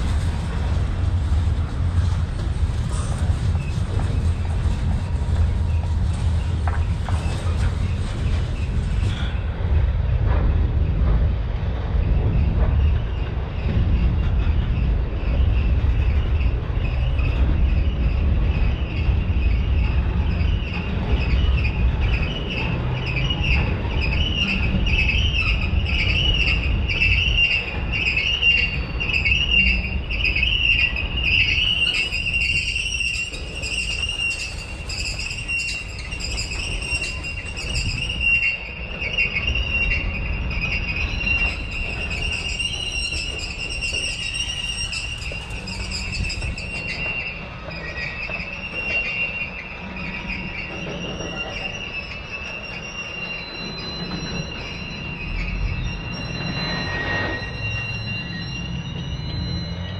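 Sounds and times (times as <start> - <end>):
freight cars rumbling on rails: 0.0 - 59.9.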